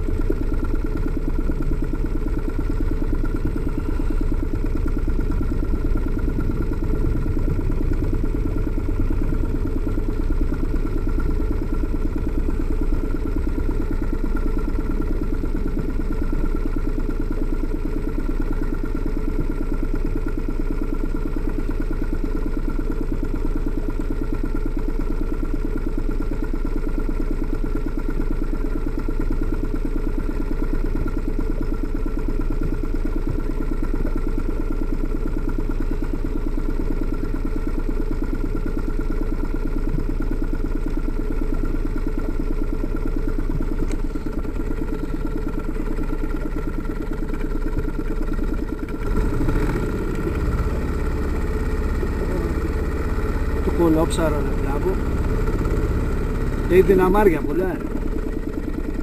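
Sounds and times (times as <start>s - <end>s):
outboard motor idling: 0.0s - 59.0s.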